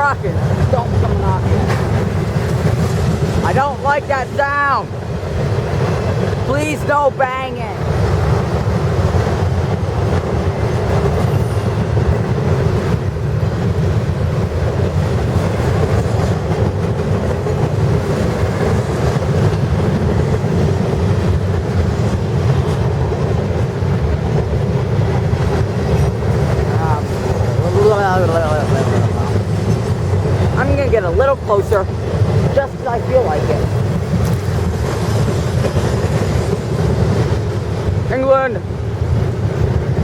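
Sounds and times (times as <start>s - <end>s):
rail joint clicks: 0.0s - 40.0s
train wheels rumbling on rails: 0.0s - 40.0s.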